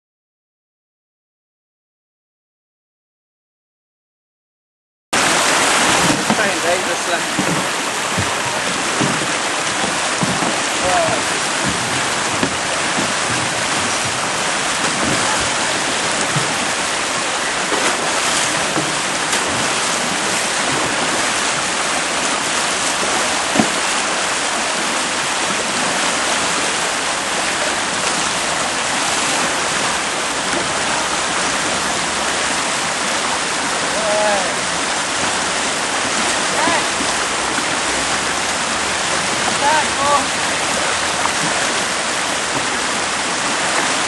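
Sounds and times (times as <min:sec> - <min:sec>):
whitewater rushing: 0:05.2 - 0:44.0.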